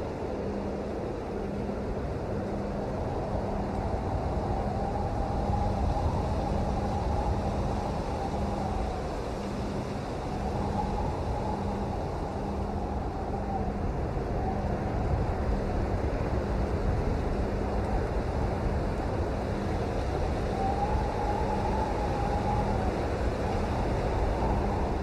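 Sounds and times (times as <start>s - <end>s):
faint wavering tone: 0.0s - 25.0s.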